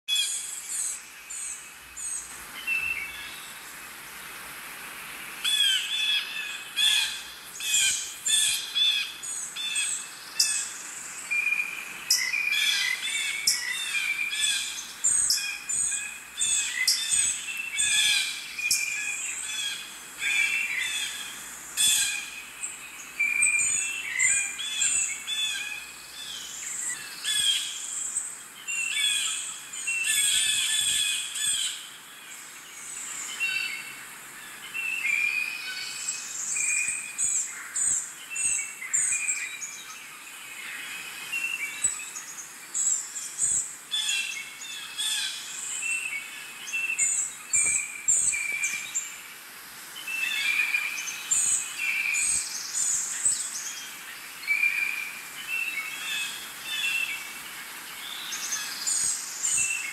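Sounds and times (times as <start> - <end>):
birds calling and chirping: 0.1 - 4.4, 5.2 - 59.9.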